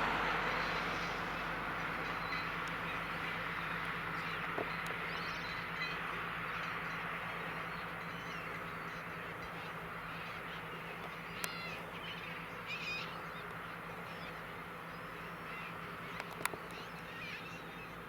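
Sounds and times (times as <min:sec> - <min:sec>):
gulls calling: 0:00.0 - 0:18.0
tractor engine drone: 0:00.0 - 0:18.0.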